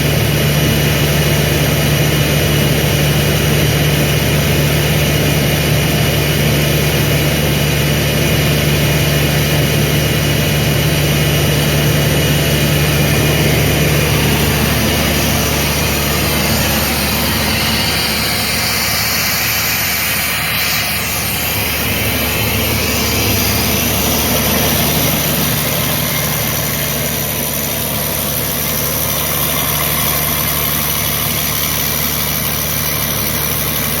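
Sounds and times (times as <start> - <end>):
diesel air compressor running: 0.0 - 34.0.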